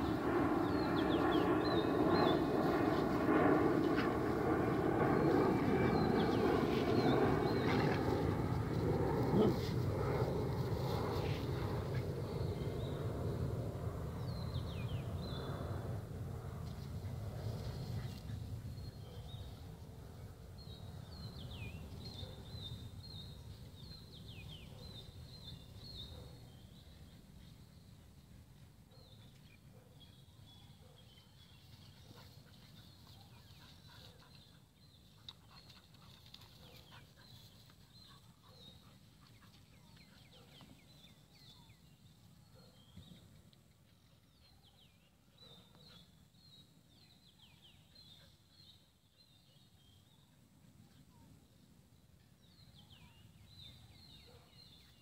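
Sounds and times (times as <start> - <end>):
small birds chirping: 0.0 - 16.0, 16.6 - 55.0.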